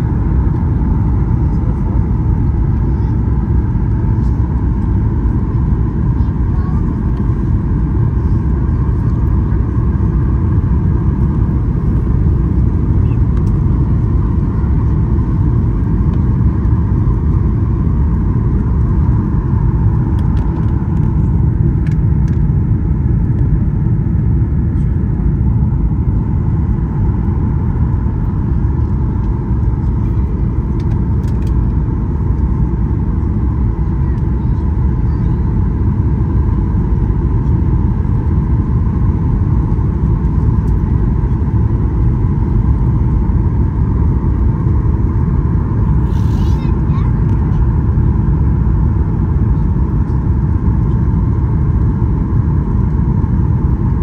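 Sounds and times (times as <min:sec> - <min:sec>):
engine and airflow rumble: 0:00.0 - 0:54.0
faint high hum: 0:00.0 - 0:54.0.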